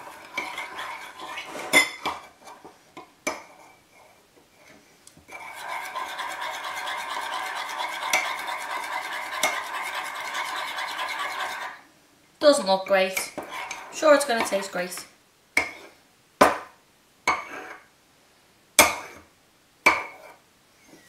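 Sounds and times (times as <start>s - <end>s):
spoon scraping and stirring: 0.0s - 11.8s, 13.0s - 16.0s, 17.3s - 17.9s, 18.9s - 20.4s.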